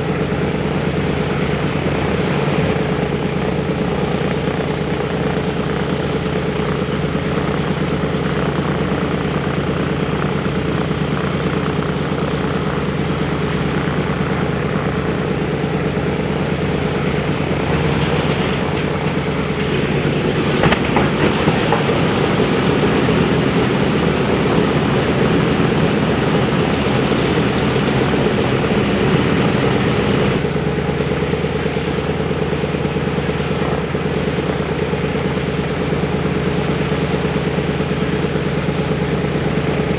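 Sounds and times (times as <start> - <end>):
engine pops: 0.0 - 39.9
radial aircraft engines running: 0.0 - 39.9.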